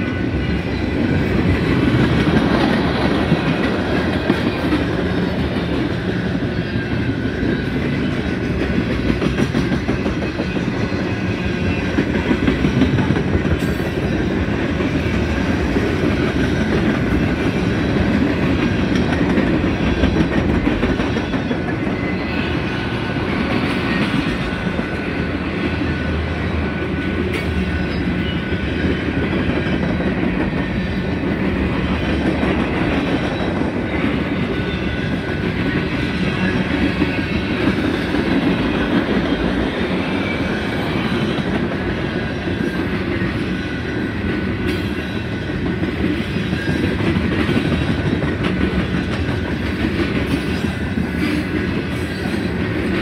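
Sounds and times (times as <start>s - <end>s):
freight train cars rolling: 0.0s - 53.0s.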